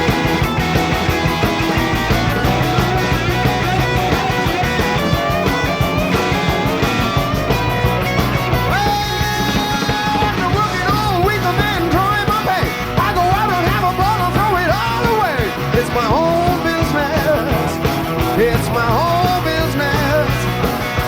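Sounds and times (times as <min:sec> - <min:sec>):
electric guitar solo: 0:00.0 - 0:20.4
bass guitar: 0:00.0 - 0:21.0
drums: 0:00.0 - 0:21.0.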